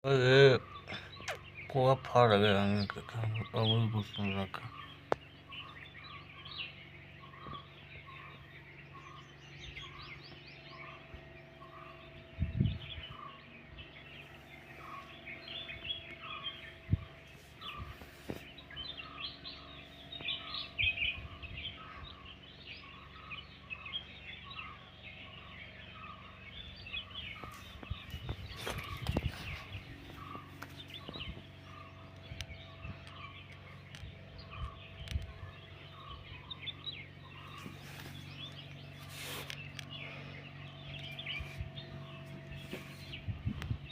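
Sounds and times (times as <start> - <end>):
birds chirping: 0.0 - 43.9
repeated short bird call: 0.2 - 43.9.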